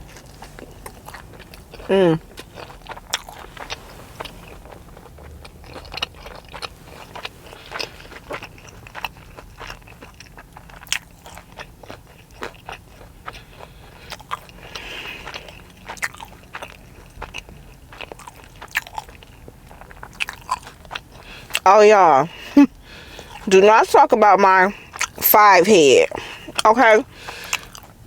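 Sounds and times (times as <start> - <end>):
chewing and crunching fried chicken: 0.0 - 28.0.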